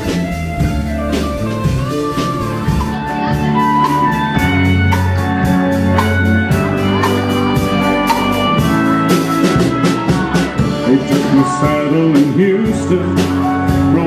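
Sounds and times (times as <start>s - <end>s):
country-rock band playing: 0.0s - 14.0s.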